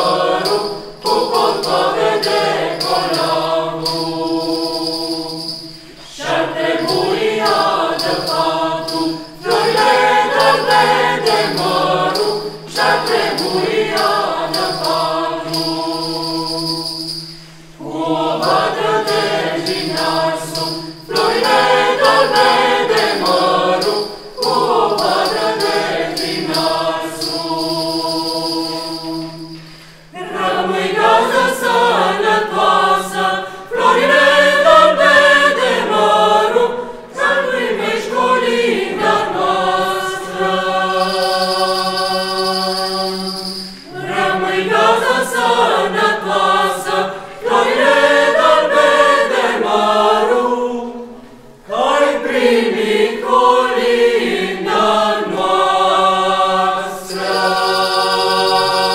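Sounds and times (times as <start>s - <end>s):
choir singing unaccompanied: 0.0s - 58.9s.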